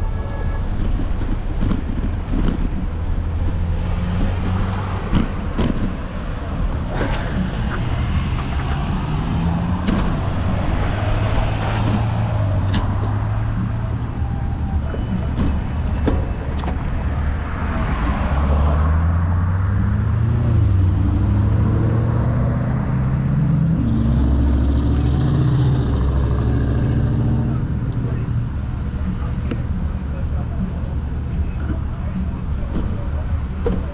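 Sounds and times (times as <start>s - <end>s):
wind and road noise: 0.0s - 33.9s.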